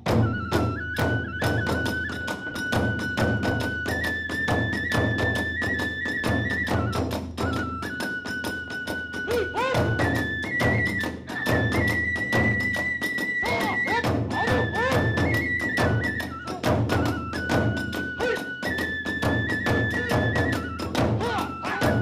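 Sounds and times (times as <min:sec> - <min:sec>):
bamboo flute melody: 0:00.0 - 0:22.0
drums beating: 0:00.0 - 0:22.0.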